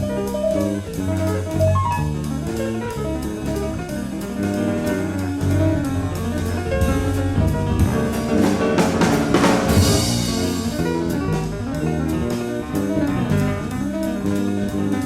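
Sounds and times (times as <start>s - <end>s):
double bass: 0.0s - 15.0s
drums and cymbals: 0.0s - 15.0s
piano: 0.0s - 15.0s.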